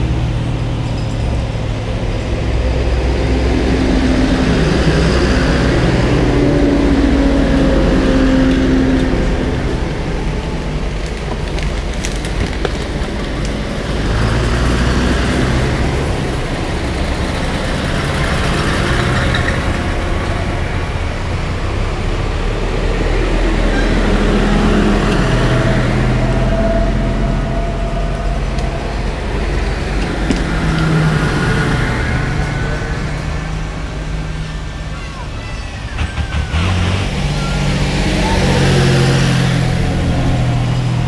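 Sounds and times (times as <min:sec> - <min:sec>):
tractors driving past: 0:00.0 - 0:41.0.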